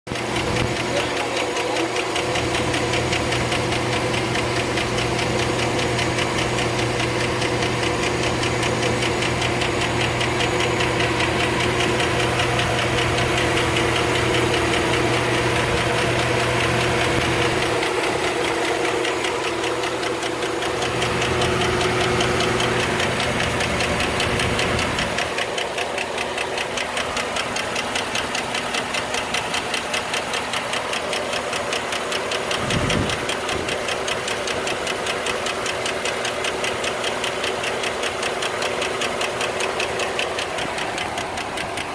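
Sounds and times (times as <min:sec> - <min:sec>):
engine running: 0:00.1 - 0:41.9
rapid valvetrain ticking: 0:00.1 - 0:41.9.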